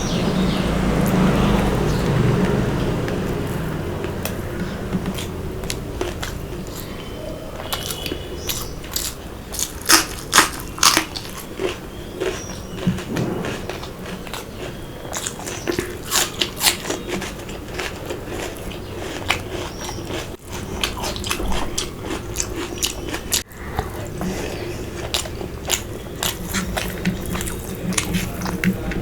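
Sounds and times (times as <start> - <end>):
person chewing and biting: 3.3 - 29.0.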